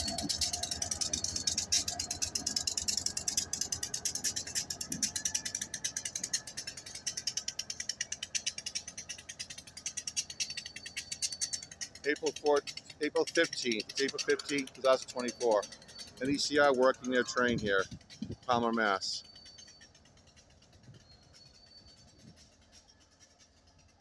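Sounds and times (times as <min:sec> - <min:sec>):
train wheels clicking and clattering: 0:00.0 - 0:24.0.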